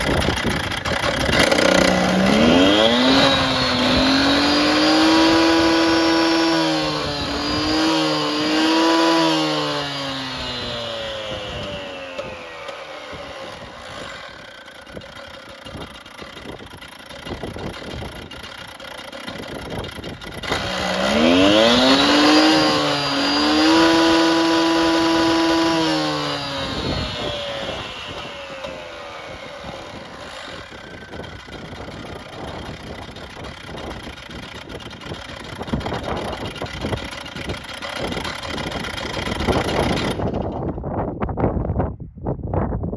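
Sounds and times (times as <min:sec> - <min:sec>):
cut-off saw engine revving: 0:00.0 - 0:40.6.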